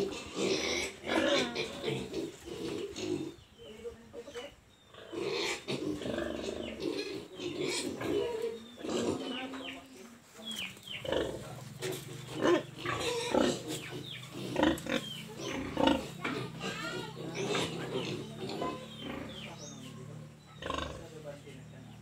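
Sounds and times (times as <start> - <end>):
pigs grunting and squealing: 0.0 - 3.5, 4.9 - 9.8, 10.9 - 21.7.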